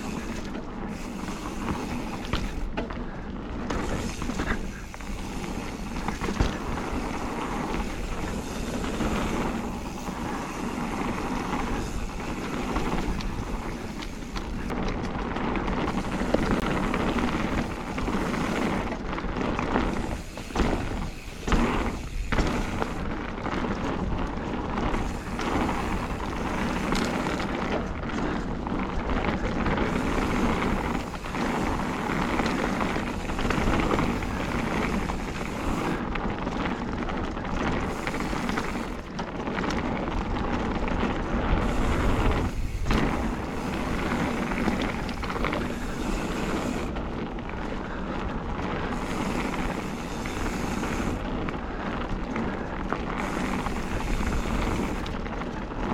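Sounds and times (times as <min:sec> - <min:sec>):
bike knocking and rattling: 0:00.0 - 0:55.9
bike tyres rolling over dirt: 0:00.0 - 0:55.9.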